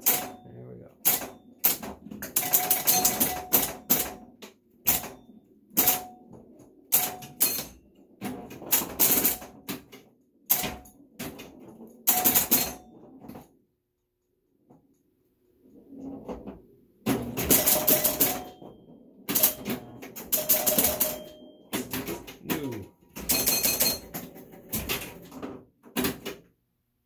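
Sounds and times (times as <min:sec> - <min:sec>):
pinball machine clacks: 0:00.0 - 0:00.4, 0:01.0 - 0:13.2, 0:17.1 - 0:26.5.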